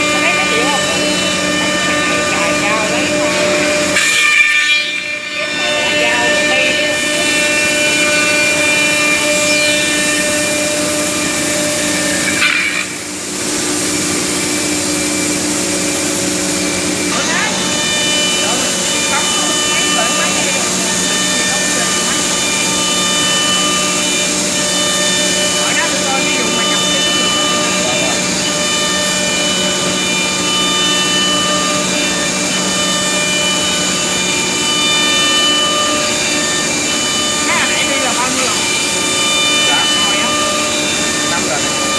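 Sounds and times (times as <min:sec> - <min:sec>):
router cutting wood: 0:00.0 - 0:41.9
router spindle whine: 0:00.0 - 0:41.9.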